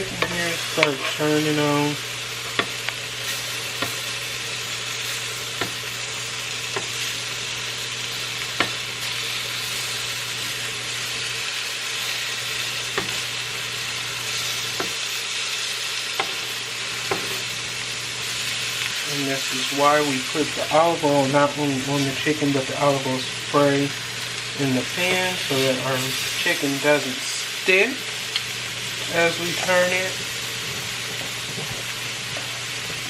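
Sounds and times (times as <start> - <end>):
chicken sizzling in a frying pan: 0.0 - 33.0.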